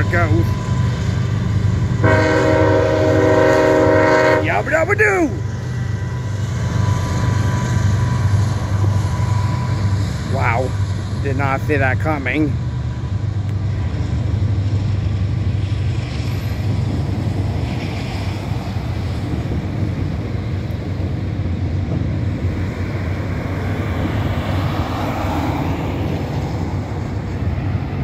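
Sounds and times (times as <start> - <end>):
freight train rumbling on rails: 0.0 - 28.0.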